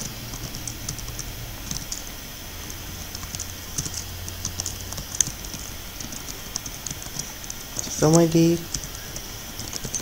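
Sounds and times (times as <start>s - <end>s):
computer keyboard typing: 0.0s - 10.0s.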